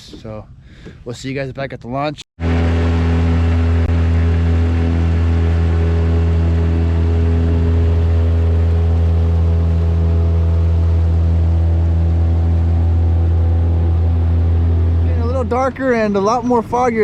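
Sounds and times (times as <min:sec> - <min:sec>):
outboard motor droning: 0:02.4 - 0:17.0.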